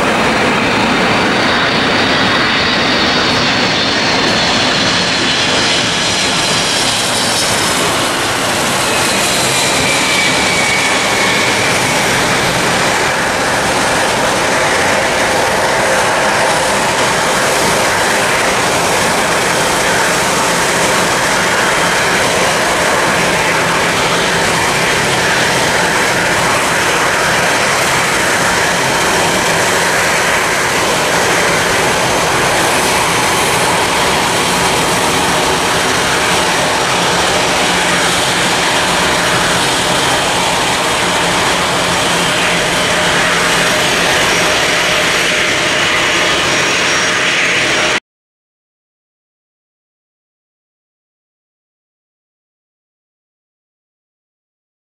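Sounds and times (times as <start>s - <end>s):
jet engines passing low: 0.0s - 48.0s.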